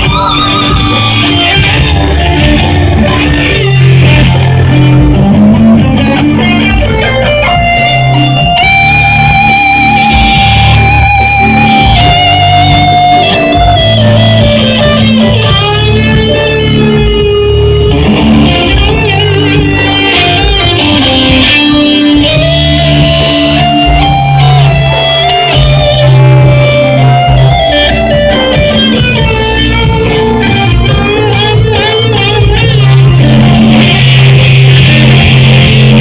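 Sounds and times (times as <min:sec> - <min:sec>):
electric guitar lead: 0:00.0 - 0:36.0
low bass backing: 0:00.0 - 0:36.0.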